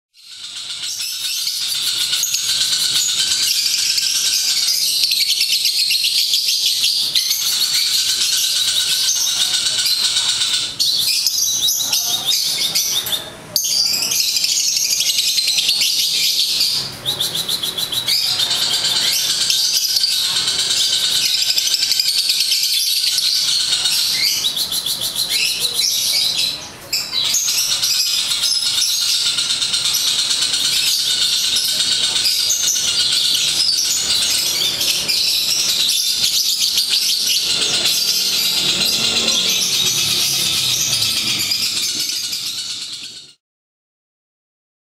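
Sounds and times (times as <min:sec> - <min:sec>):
bird chattering high chirps: 0:00.2 - 0:43.4.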